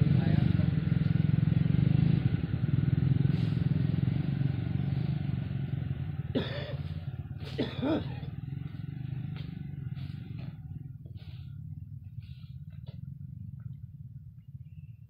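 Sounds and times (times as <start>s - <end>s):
small engine droning: 0.0s - 15.0s.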